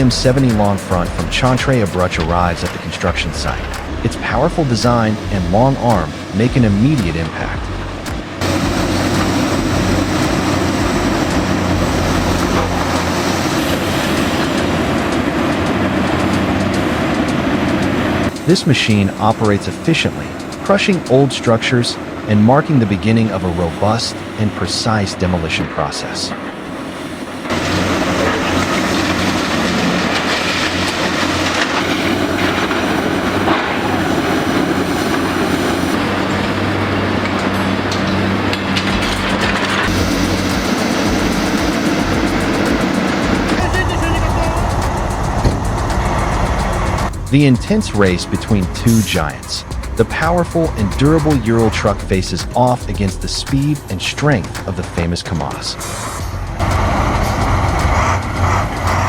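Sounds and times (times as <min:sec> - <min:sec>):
machinery rattling and crunching: 0:00.0 - 0:21.1, 0:27.5 - 0:59.0
rumbling clatter: 0:00.0 - 0:21.1, 0:27.4 - 0:59.0
diesel engine drone: 0:00.0 - 0:59.0.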